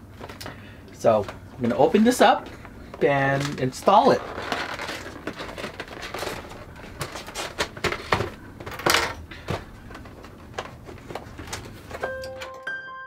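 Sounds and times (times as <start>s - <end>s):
plastic packaging crackling: 0.0s - 12.5s.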